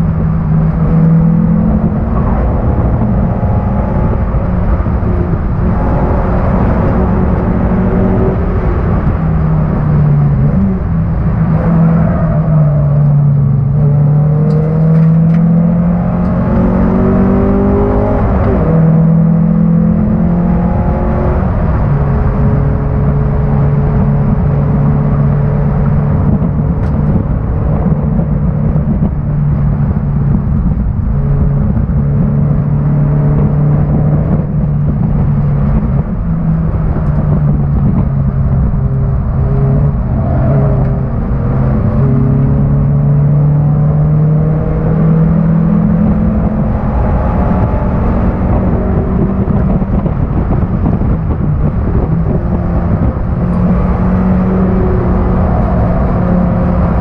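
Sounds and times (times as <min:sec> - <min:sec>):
car engine revving hard: 0:00.0 - 0:57.0
road and wind noise: 0:00.0 - 0:57.0.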